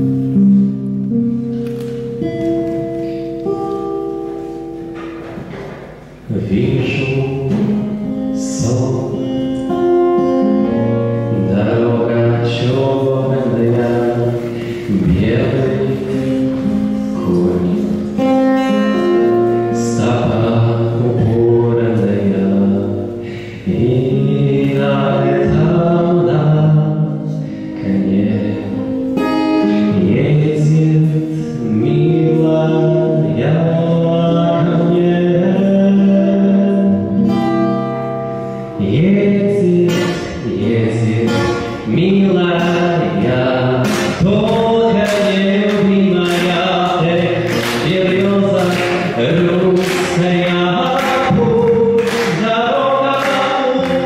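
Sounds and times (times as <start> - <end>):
acoustic guitar strumming: 0.0 - 54.0
man singing: 6.1 - 37.4, 38.4 - 54.0.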